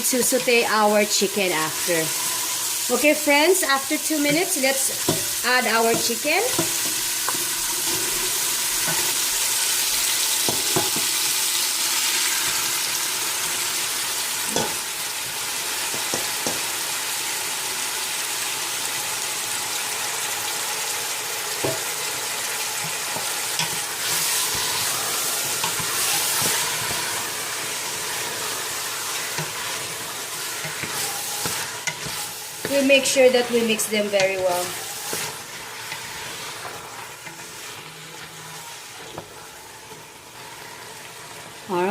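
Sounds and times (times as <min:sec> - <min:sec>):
chicken sizzling in hot oil: 0:00.0 - 0:41.9.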